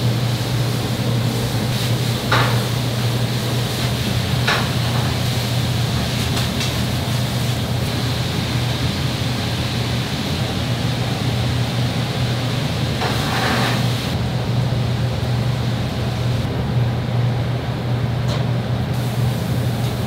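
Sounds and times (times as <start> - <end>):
kitchen ventilation hum and hiss: 0.0 - 20.0.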